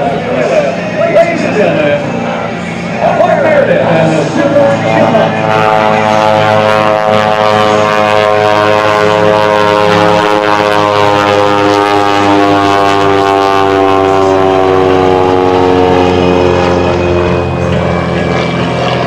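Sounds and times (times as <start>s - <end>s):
propeller plane engine fly-by: 0.0s - 19.0s.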